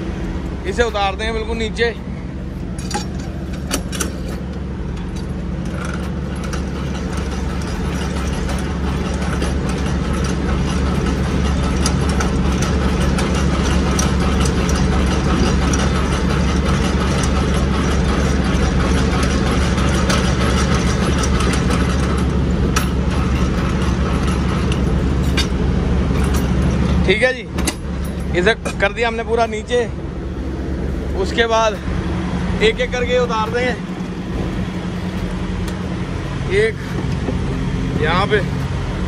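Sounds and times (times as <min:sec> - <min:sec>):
diesel truck engine idling: 0:00.0 - 0:39.0
crank clicking and rattling: 0:02.6 - 0:30.0, 0:30.6 - 0:38.8.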